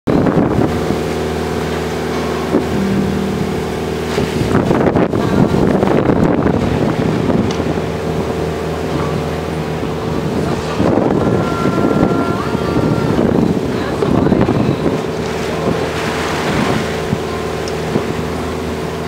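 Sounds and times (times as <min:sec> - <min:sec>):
boat engine running: 0:00.1 - 0:19.0
choppy sea rushing past hull: 0:00.1 - 0:19.0
wind noise on microphone: 0:00.1 - 0:19.0.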